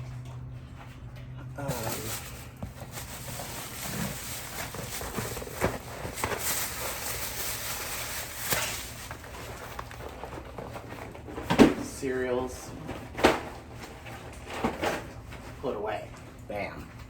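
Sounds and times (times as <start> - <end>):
steady low hum: 0.0 - 17.0
packages knocking and rustling: 1.6 - 15.9.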